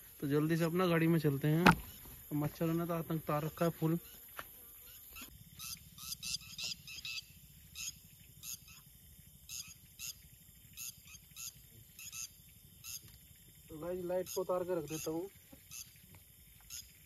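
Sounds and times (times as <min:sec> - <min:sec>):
night birds calling: 0:00.0 - 0:17.0.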